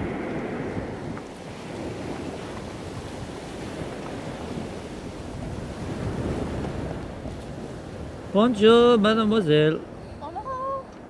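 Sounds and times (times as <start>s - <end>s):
small waves on open water: 0.0s - 11.0s
wind buffeting microphone: 0.0s - 11.0s.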